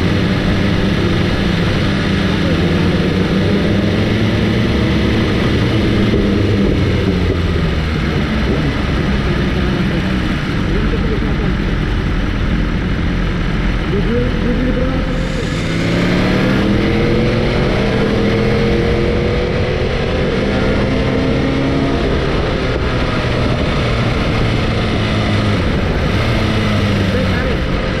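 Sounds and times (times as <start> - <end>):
wind rush on microphone: 0.0 - 14.4, 15.0 - 28.0
motorcycle engine accelerating: 0.0 - 28.0.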